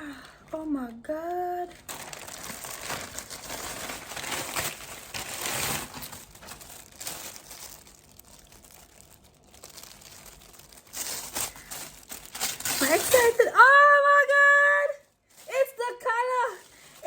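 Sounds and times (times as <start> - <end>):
plastic crinkling and rustling: 0.6 - 17.0.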